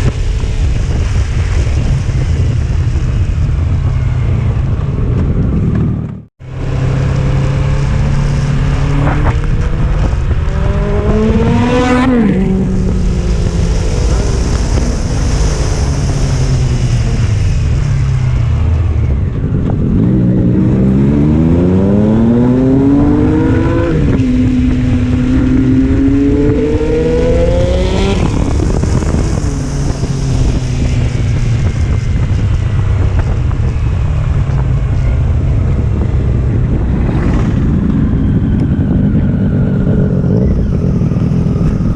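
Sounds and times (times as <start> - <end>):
motorcycle engine accelerating: 0.0 - 41.9
wind rushing over microphone: 0.0 - 41.9.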